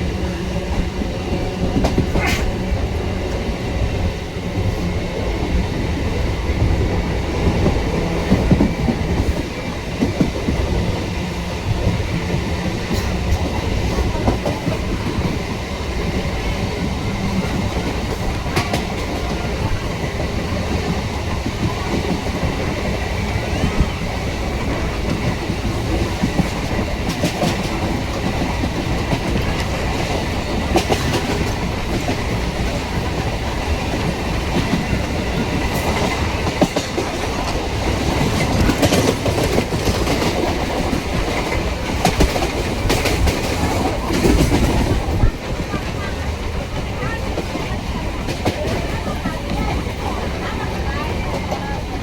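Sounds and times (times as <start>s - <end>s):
clickety-clack over rail joints: 0.0s - 52.0s
train wheels rumbling on rails: 0.0s - 52.0s.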